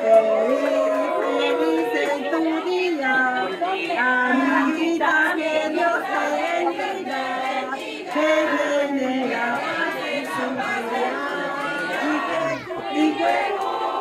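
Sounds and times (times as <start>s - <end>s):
group of people singing: 0.0s - 14.0s.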